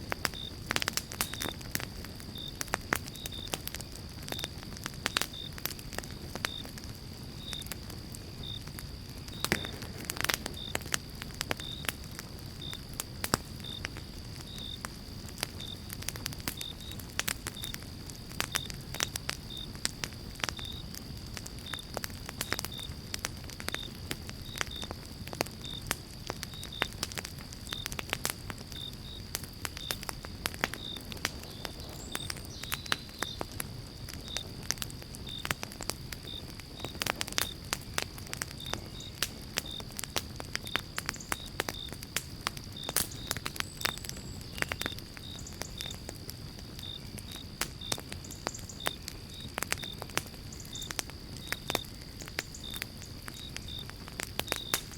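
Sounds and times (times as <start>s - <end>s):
campfire crackling and popping: 0.0s - 54.9s
cricket chirping: 0.0s - 54.9s
high insect trill: 0.0s - 54.9s.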